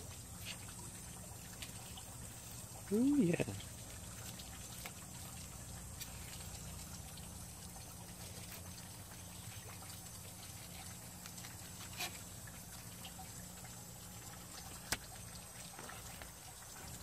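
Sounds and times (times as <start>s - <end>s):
steady low hum: 0.0s - 17.0s
water trickling: 0.0s - 17.0s.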